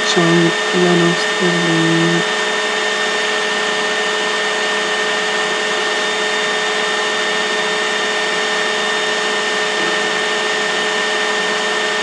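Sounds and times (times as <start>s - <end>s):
constant humming tones: 0.0s - 4.0s, 5.3s - 11.8s.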